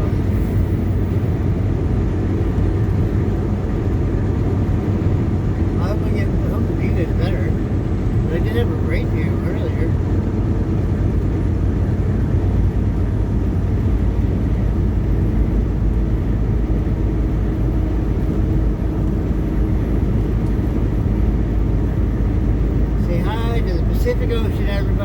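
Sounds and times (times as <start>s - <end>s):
road noise: 0.0s - 25.0s
truck engine hum: 0.0s - 25.0s.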